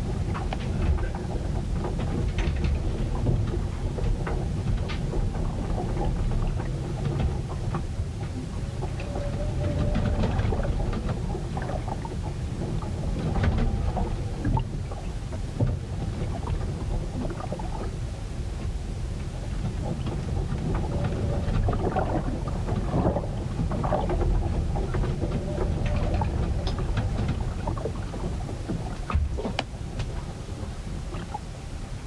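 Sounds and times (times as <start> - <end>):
ship knocking and creaking: 0.0 - 31.5
wind and water rumble: 0.0 - 32.0.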